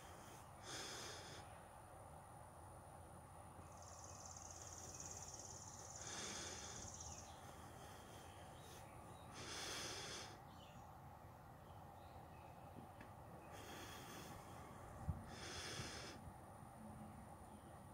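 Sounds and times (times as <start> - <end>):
soft hissing swells: 0.0 - 12.4, 13.2 - 17.8.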